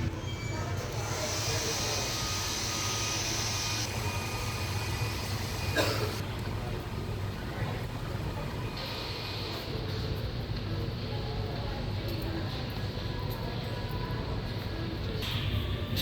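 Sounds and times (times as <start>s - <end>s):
ceiling fans humming: 0.0s - 16.0s.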